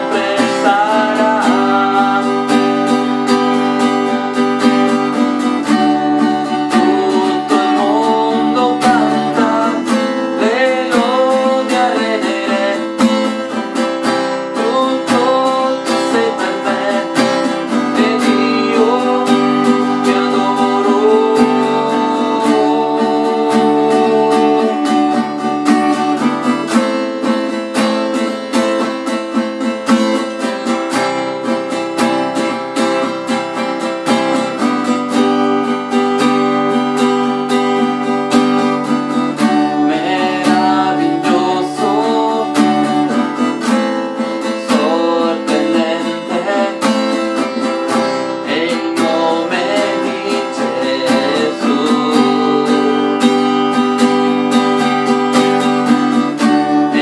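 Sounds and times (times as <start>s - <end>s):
man singing: 0.0s - 29.3s, 31.6s - 57.0s
acoustic guitar strumming: 0.0s - 57.0s.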